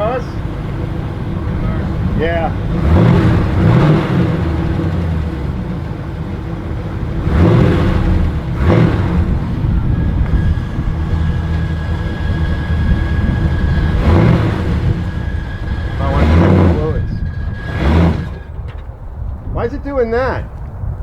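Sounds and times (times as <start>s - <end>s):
car engine revving and idling: 0.0s - 19.1s.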